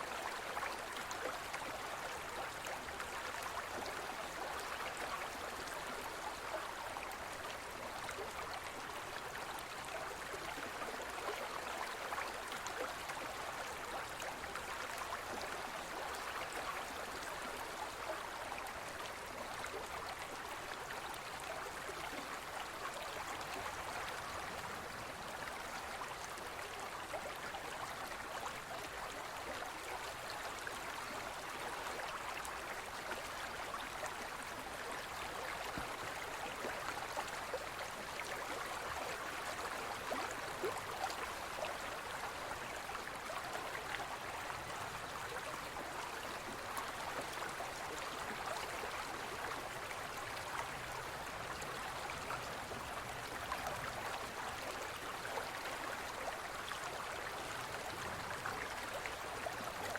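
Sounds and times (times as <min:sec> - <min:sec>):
stream babbling over rocks: 0:00.1 - 0:59.9.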